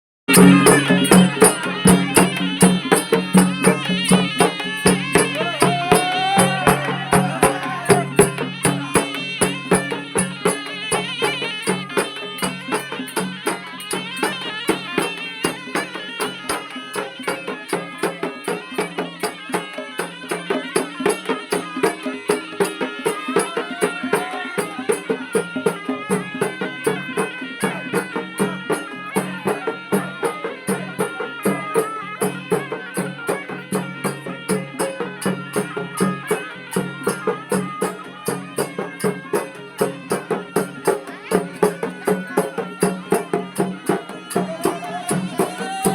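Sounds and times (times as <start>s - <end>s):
fast steady drumbeat: 0.3s - 45.9s.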